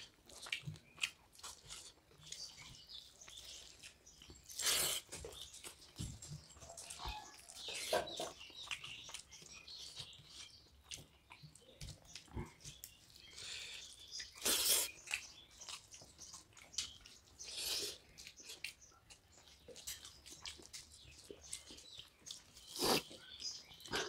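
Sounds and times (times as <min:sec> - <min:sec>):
chewing and mouth noises: 0:00.0 - 0:24.0
fingers squelching rice on plates: 0:00.0 - 0:24.0.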